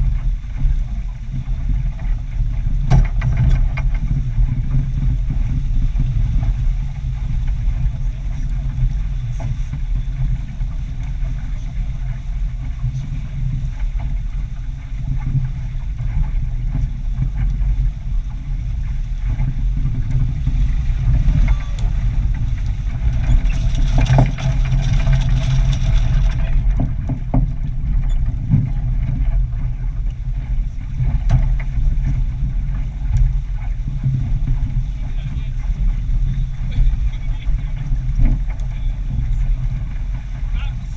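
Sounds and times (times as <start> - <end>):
water rushing past hull: 0.0 - 40.9
wind buffeting microphone: 0.0 - 40.9.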